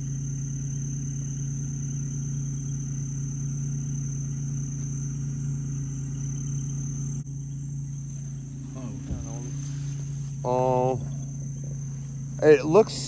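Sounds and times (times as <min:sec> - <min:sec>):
crickets trilling: 0:00.0 - 0:13.0
steady low hum: 0:00.0 - 0:13.0.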